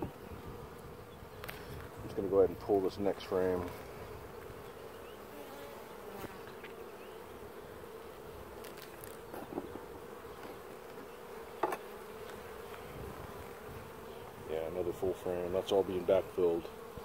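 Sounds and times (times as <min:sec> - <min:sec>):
bees humming: 0:00.0 - 0:17.0.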